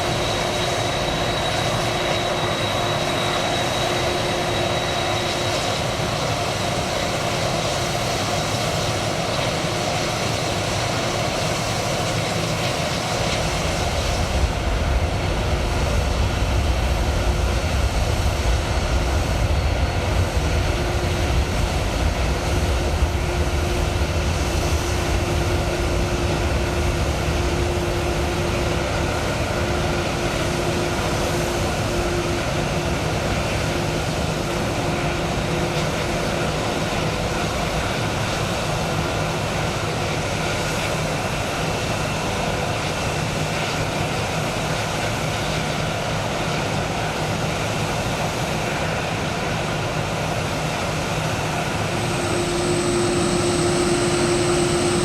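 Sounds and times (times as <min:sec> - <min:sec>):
high-pitched whine: 0:00.0 - 0:41.2, 0:48.3 - 0:55.0
jet engines roaring: 0:00.0 - 0:55.0.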